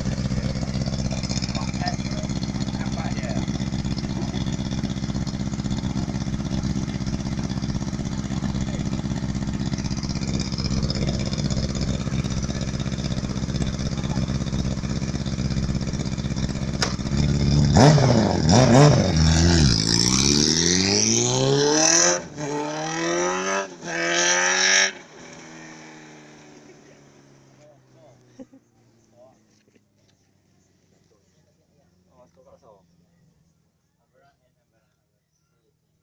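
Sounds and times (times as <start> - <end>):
motorcycle engine idling and revving: 0.0 - 34.7.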